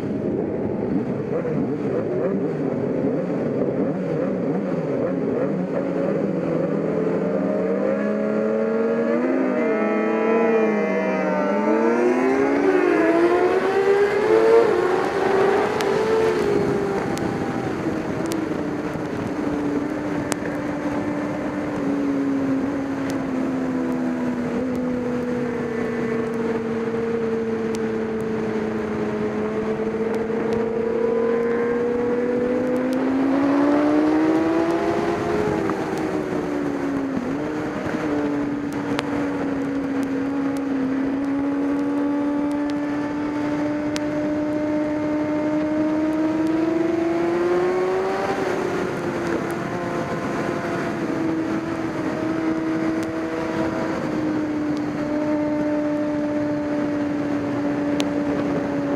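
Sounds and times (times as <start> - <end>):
racing motorcycle engine revving: 0.0 - 58.9
wind noise: 0.0 - 58.9.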